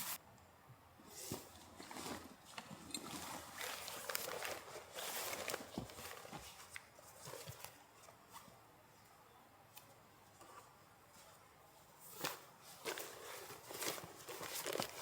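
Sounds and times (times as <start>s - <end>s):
rustling and crunching: 1.1s - 15.0s.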